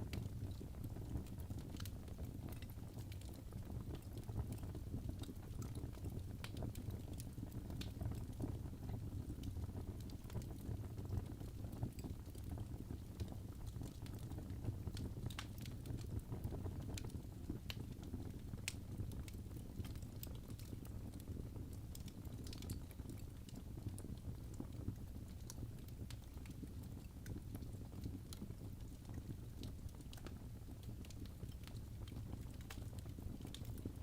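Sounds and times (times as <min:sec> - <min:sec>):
low rumble of flame: 0:00.0 - 0:34.0
wood fire crackling: 0:00.0 - 0:34.0.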